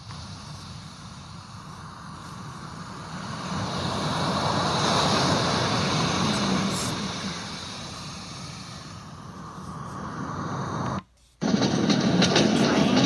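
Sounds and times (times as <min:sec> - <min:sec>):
ocean wave sound from speaker: 0:00.0 - 0:11.0.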